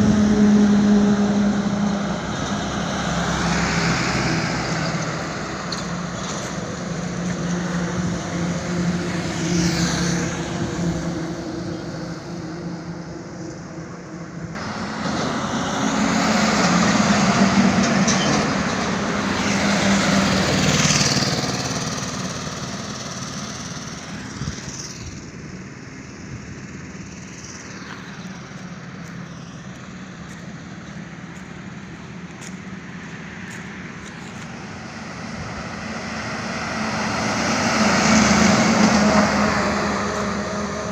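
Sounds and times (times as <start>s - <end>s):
steady engine hum: 0.0s - 40.9s
vehicles passing by: 0.0s - 40.9s.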